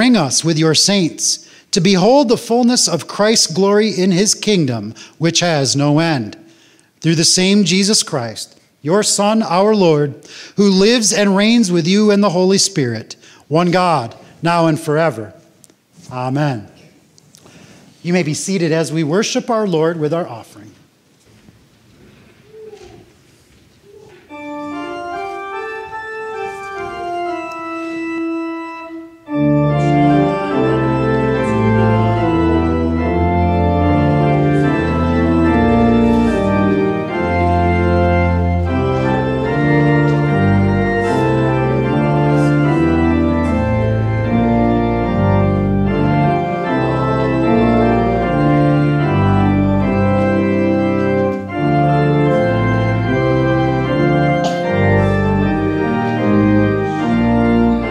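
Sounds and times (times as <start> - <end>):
church organ playing: 0.0 - 20.6, 23.9 - 57.9.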